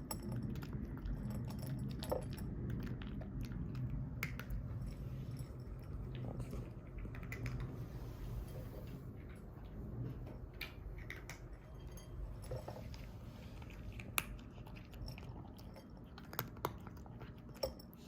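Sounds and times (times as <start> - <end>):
cat chewing food: 0.0 - 18.0.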